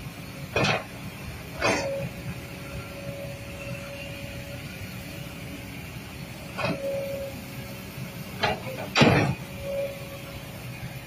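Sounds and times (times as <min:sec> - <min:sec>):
excavator diesel engine rumbling: 0:00.0 - 0:11.0
hydraulic whine: 0:00.2 - 0:11.0.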